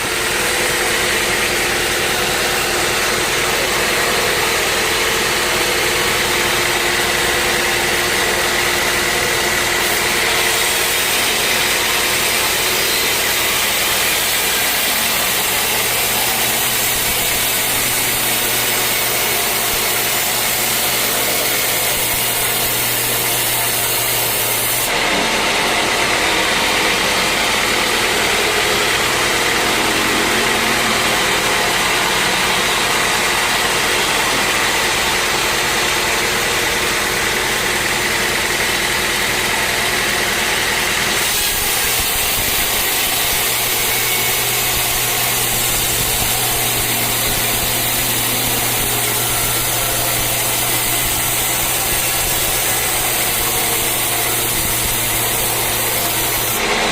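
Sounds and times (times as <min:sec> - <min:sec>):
saw cutting through log: 0:00.0 - 0:56.9
sawmill machinery running: 0:00.0 - 0:56.9.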